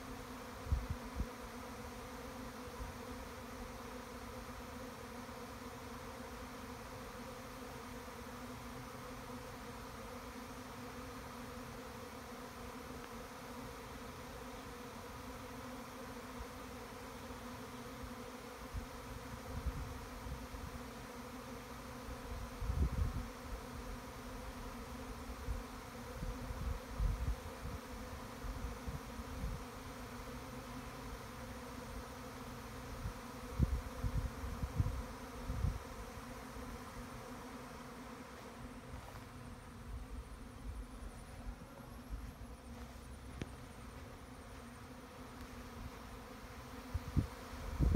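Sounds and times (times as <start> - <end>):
bee swarm humming: 0.0 - 47.9.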